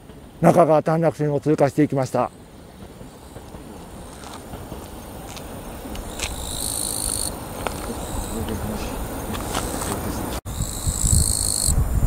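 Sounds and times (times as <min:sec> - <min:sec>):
insects buzzing: 0:01.8 - 0:11.9.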